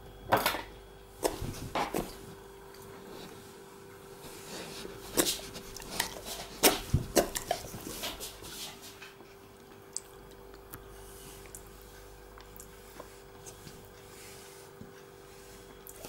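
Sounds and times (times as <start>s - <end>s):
steady faint hum: 0.0s - 16.0s.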